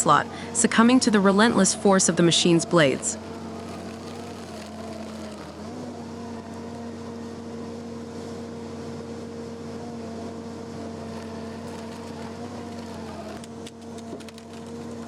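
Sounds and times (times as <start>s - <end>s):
stump grinder engine humming: 0.0s - 15.0s.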